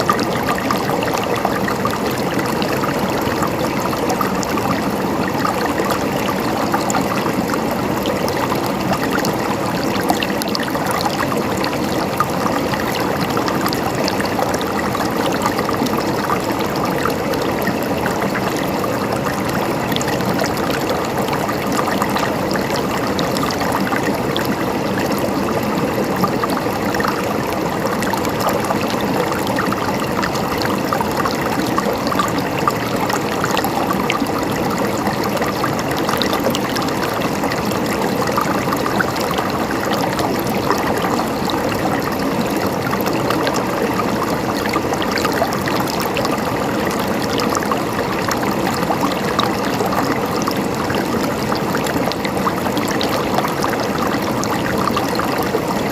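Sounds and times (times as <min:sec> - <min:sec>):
river water flowing over rocks: 0:00.0 - 0:55.9.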